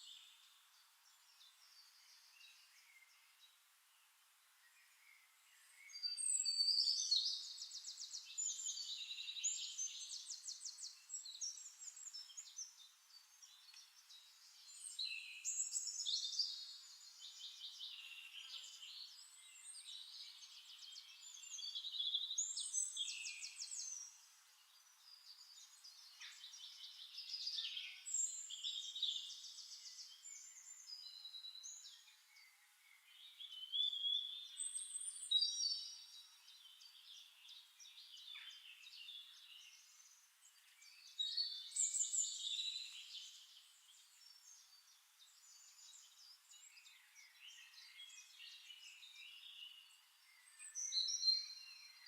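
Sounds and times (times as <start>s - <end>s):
songbirds chirping and trilling: 0.0s - 52.0s.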